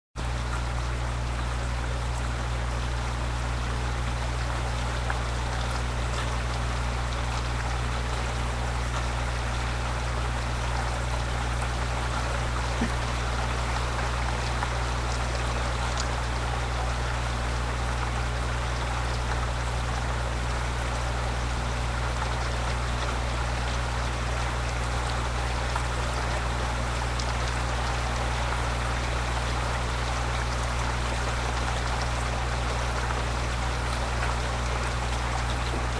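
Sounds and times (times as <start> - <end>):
constant low hum: 0.2 - 35.9
heavy rain hissing: 1.1 - 35.9.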